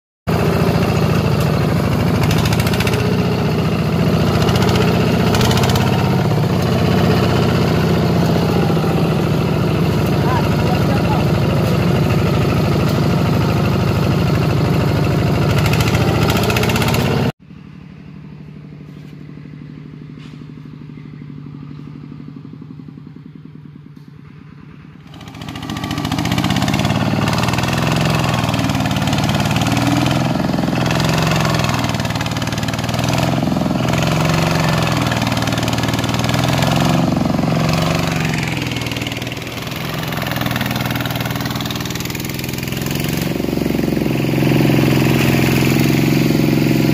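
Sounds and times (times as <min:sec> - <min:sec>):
wheels churning through mud: 0:00.3 - 0:17.3, 0:25.0 - 0:46.9
diesel tractor engine labouring: 0:00.3 - 0:46.9.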